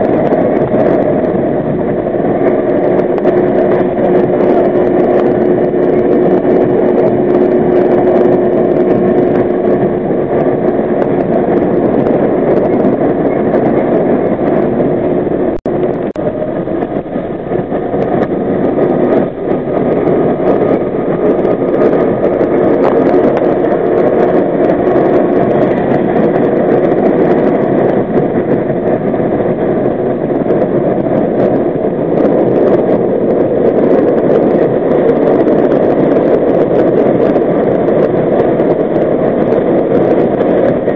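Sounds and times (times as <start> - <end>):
subway train wheels on rail: 0.0 - 40.9.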